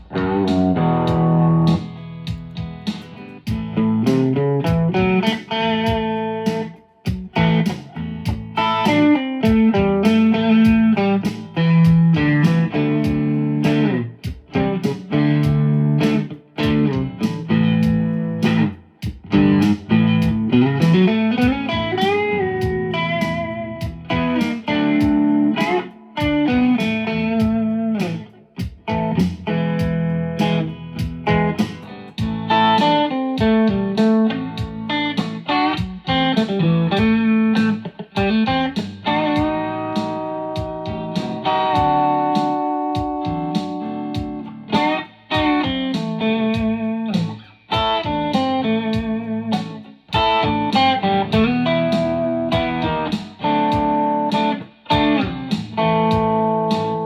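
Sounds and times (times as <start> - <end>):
drum and backing track: 0.0 - 57.0
electric guitar blues lead: 0.0 - 57.0.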